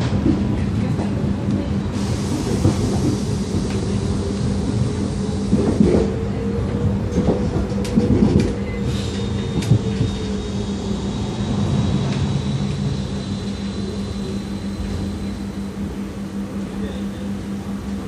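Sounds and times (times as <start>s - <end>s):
tram running drone: 0.0s - 18.0s.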